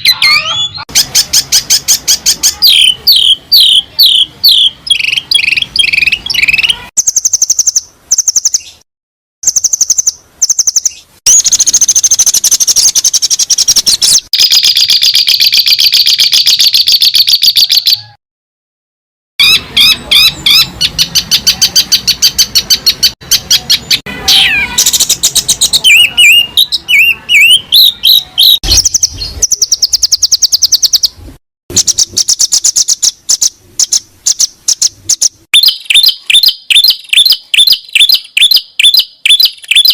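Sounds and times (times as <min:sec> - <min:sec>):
songbird chirping trills: 0:00.0 - 0:08.8, 0:09.4 - 0:18.2, 0:19.4 - 0:39.9.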